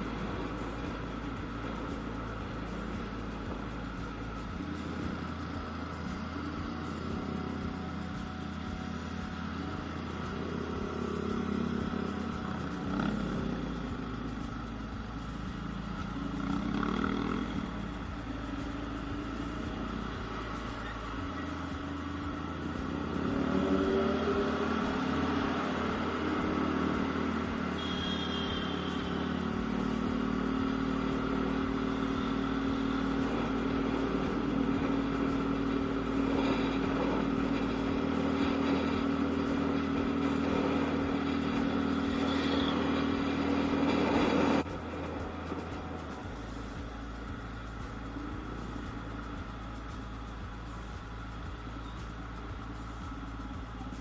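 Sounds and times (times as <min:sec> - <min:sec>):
scooter engine running: 0:00.0 - 0:54.0.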